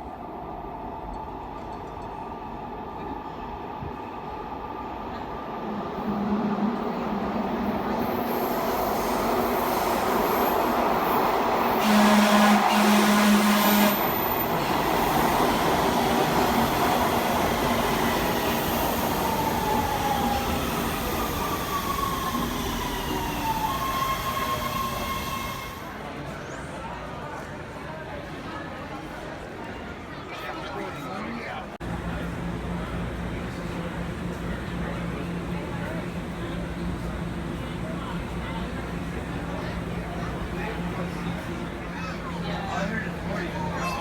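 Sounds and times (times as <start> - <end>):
train running noise: 0.0 - 26.4, 31.8 - 44.0.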